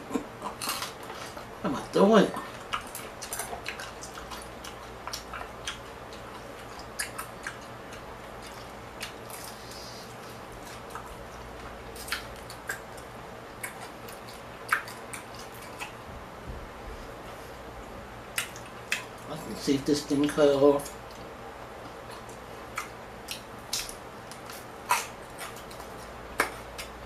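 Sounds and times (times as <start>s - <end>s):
chewing and mouth smacking: 0.0s - 1.6s, 2.3s - 16.0s, 18.3s - 27.0s
low background noise: 0.0s - 27.0s.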